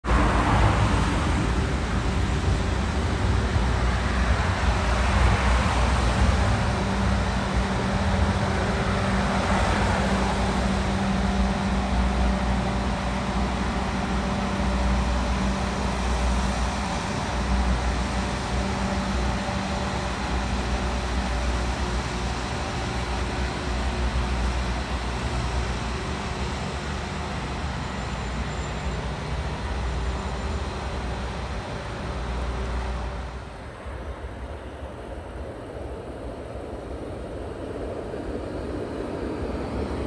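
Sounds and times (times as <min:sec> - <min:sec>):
engine hum: 0:00.0 - 0:40.0.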